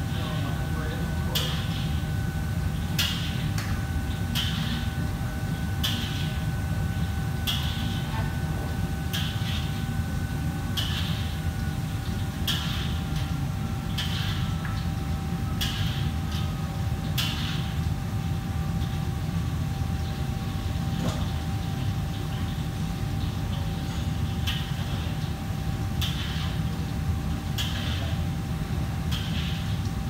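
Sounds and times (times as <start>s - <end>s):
faint steady whine: 0.0s - 30.0s
kitchen fans humming: 0.0s - 30.0s.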